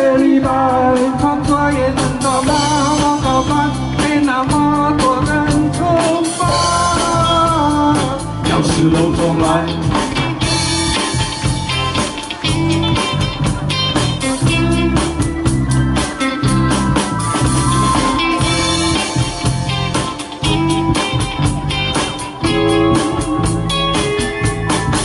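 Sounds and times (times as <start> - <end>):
instrumental backing track: 0.0 - 25.0.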